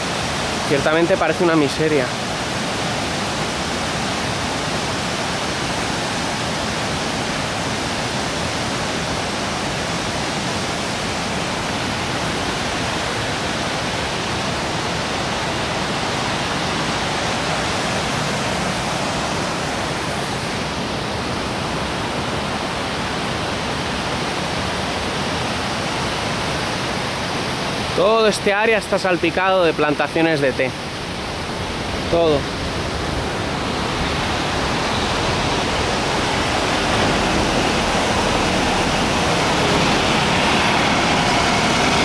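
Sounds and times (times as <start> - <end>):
stream water rushing: 0.0 - 42.0.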